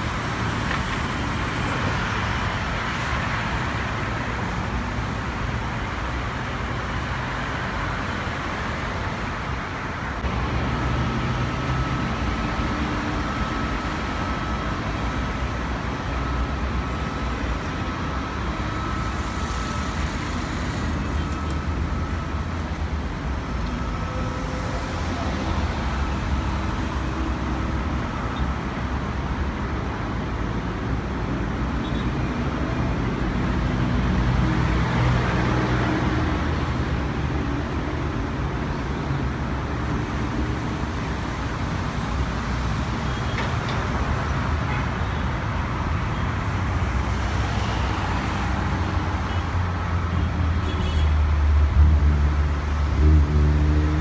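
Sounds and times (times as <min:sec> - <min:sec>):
ground traffic: 0:00.0 - 0:54.0.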